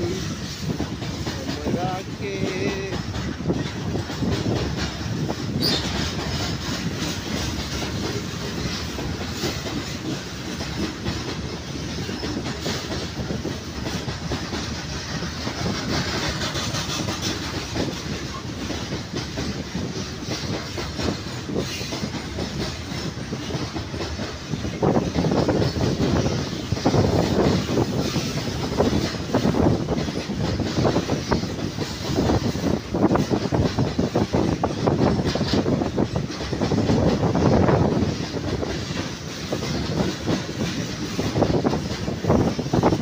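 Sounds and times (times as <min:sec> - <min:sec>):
freight train wheels clattering: 0:00.0 - 0:43.0.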